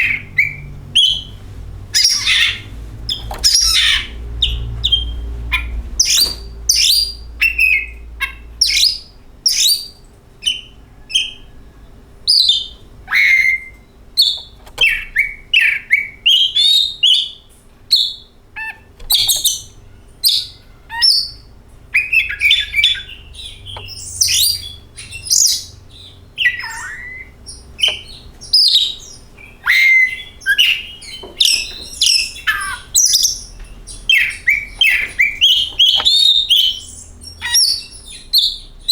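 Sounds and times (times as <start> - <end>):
songbird whistling and chattering: 2.0 - 11.5, 12.3 - 38.9.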